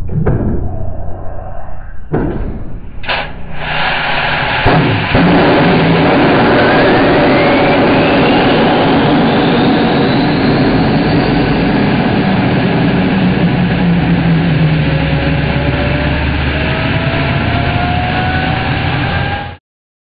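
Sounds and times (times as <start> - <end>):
turbine whine rising in pitch: 0.0 - 19.6
jet turbine running: 2.7 - 19.6.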